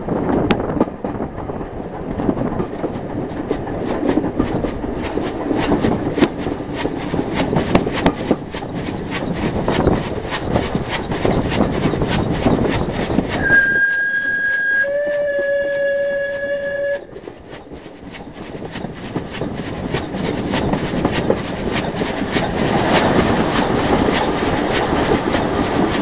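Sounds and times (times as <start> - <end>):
steady train rumble: 0.0 - 26.0
steam locomotive beats: 0.0 - 26.0.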